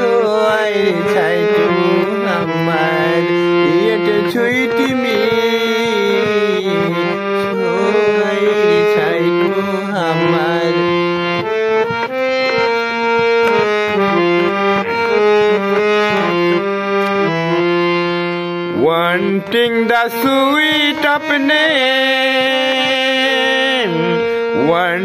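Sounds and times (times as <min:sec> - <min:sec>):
harmonium playing a melody: 0:00.0 - 0:25.0.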